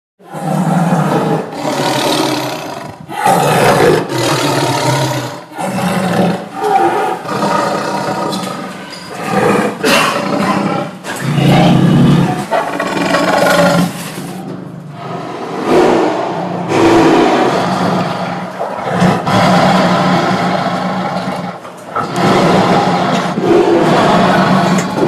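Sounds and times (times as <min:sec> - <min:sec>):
tiger roaring and snarling: 0:00.2 - 0:25.0.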